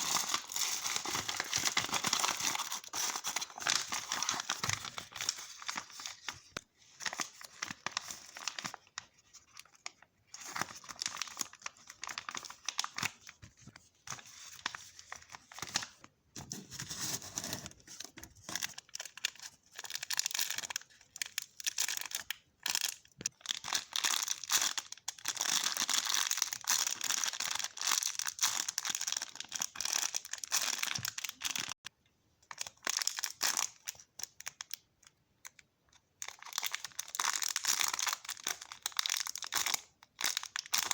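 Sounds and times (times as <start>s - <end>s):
plastic packaging crinkling: 0.0s - 16.0s, 16.9s - 31.8s, 36.2s - 40.9s.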